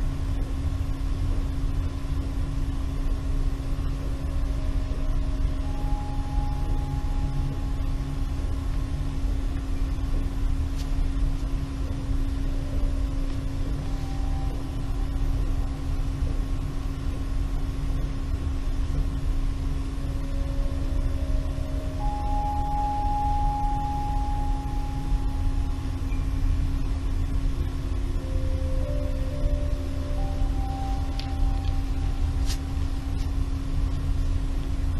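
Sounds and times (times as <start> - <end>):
low rumble: 0.0 - 34.9
held drone tone: 2.7 - 34.9
soft higher tones: 3.5 - 10.4, 11.6 - 18.1, 19.8 - 34.5.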